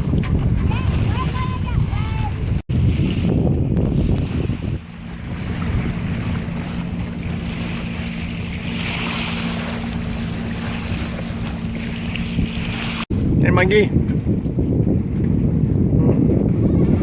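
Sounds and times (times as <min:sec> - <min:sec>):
water rushing past boat: 0:00.0 - 0:17.0
wind buffeting microphone: 0:00.0 - 0:17.0.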